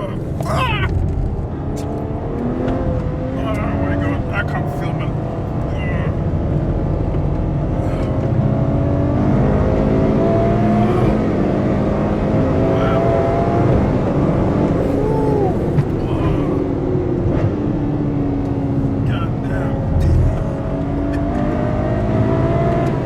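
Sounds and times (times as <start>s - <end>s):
engine revving under acceleration: 0.0s - 4.4s, 5.0s - 23.0s.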